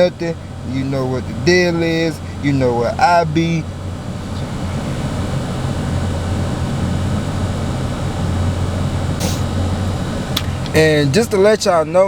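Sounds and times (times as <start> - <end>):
air conditioning blowing: 0.0 - 12.0
car engine idling: 0.0 - 12.0.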